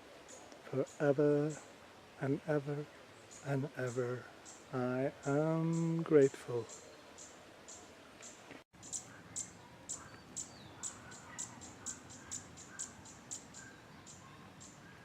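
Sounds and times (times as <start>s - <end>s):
faint bird calls: 2.8s - 15.0s.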